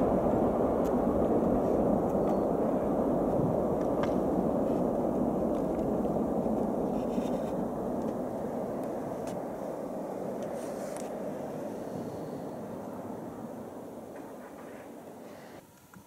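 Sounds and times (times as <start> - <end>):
jet engines in reverse thrust: 0.0 - 15.7.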